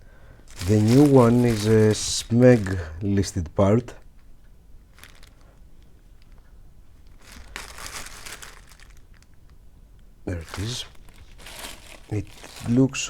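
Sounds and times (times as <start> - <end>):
plastic packaging crinkling: 0.4 - 4.0, 4.8 - 9.6, 10.3 - 13.0.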